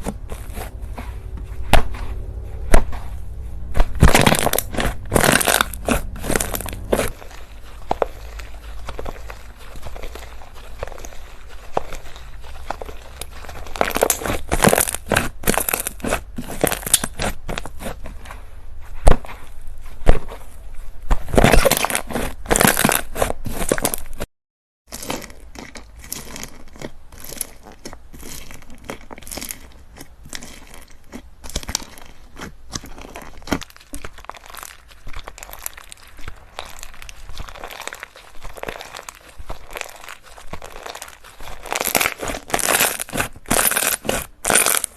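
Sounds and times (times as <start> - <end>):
slime crackling and popping: 3.7 - 18.0, 21.1 - 24.2, 24.9 - 44.9.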